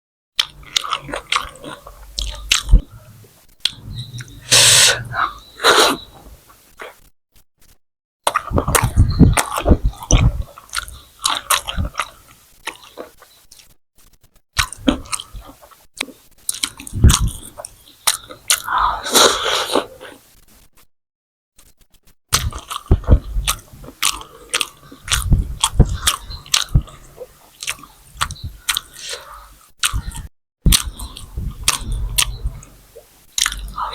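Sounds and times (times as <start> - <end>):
person chewing and crunching: 0.4 - 7.1, 8.3 - 13.8, 14.6 - 20.2, 22.3 - 33.9.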